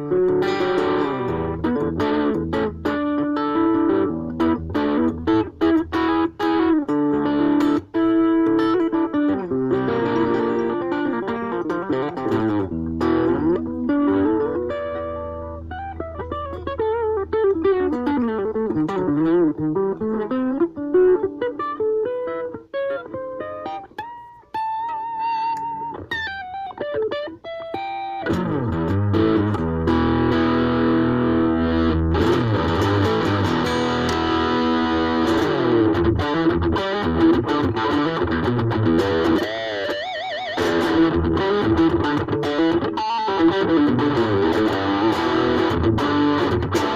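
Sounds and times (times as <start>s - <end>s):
electric guitar through amp: 0.0s - 46.9s.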